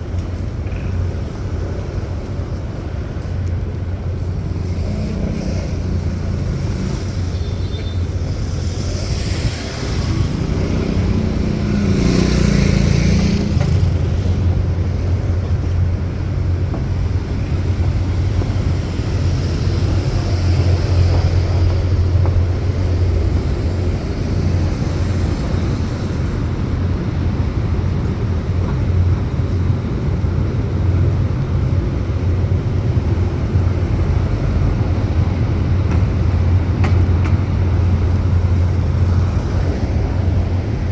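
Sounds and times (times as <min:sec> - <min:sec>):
vehicles passing: 0:00.0 - 0:40.9.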